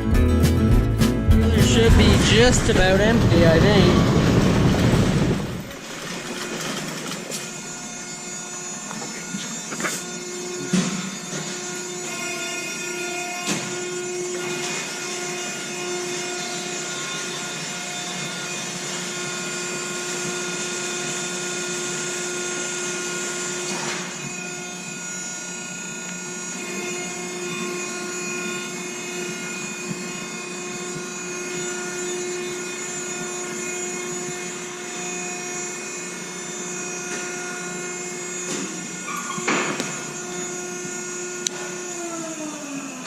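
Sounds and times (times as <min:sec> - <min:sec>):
conveyor machine drone: 0:01.4 - 0:43.0
steady machine whining tones: 0:01.4 - 0:43.0.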